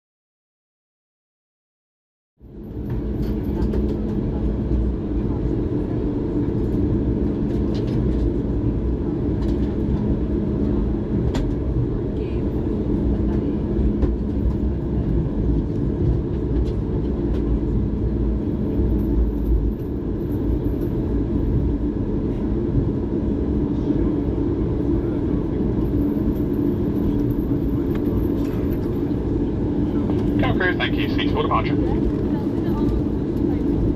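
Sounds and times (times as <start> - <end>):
airliner cabin rumble: 2.4 - 33.9.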